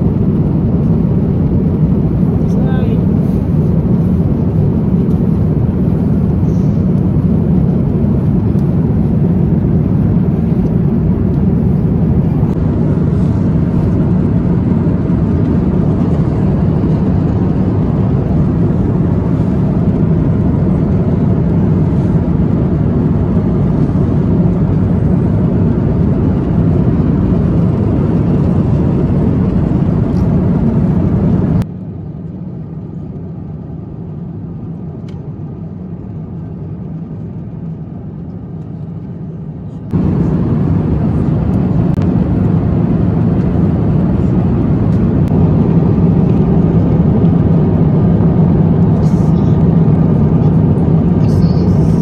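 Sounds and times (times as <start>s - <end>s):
airliner cabin engine drone: 0.0s - 52.0s.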